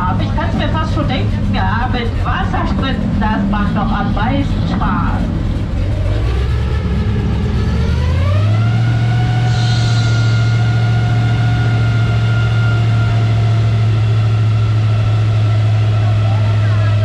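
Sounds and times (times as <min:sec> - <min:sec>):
boat motor speeding up: 0:00.0 - 0:17.0.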